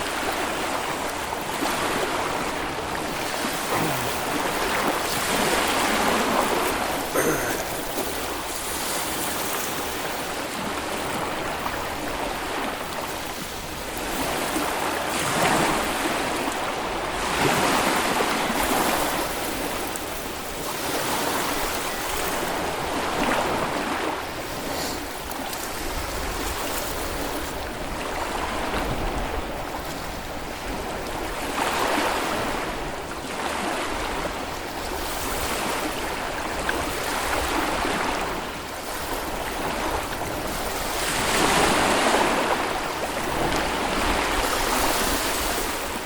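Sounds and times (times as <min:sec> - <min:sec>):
small waves breaking on sandy beach: 0:00.0 - 0:46.0.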